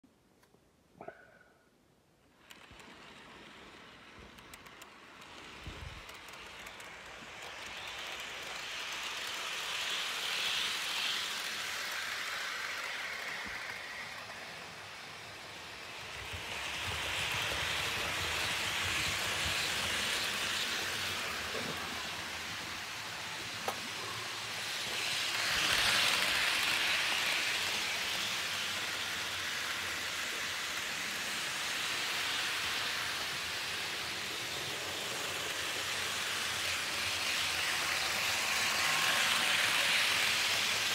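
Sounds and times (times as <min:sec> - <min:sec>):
model trains whirring: 0:01.8 - 0:40.9.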